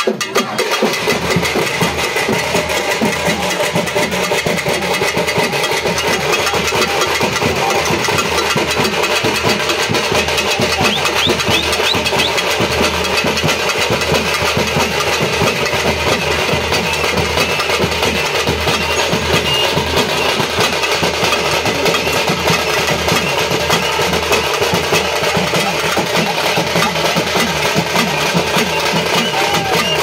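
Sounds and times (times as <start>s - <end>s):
crowd noise: 0.0s - 30.0s
fast drum roll: 0.0s - 30.0s.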